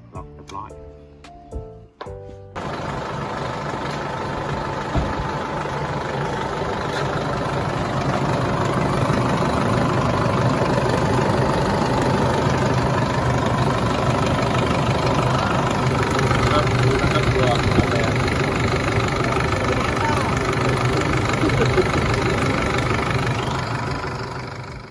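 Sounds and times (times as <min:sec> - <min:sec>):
car engine idling: 0:02.6 - 0:24.9.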